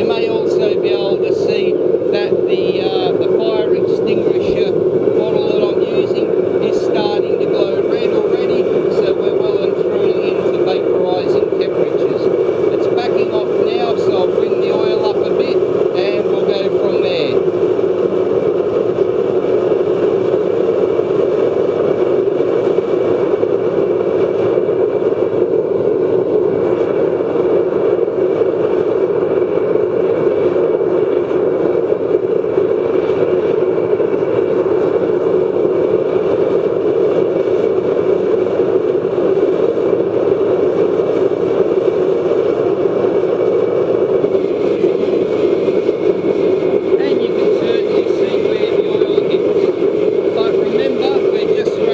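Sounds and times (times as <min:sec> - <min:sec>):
rush of flame and blown air: 0:00.0 - 0:51.9.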